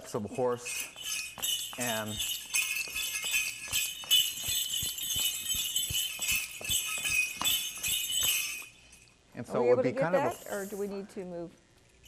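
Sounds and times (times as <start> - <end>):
bells jingling: 0.0 - 9.2, 9.9 - 11.2.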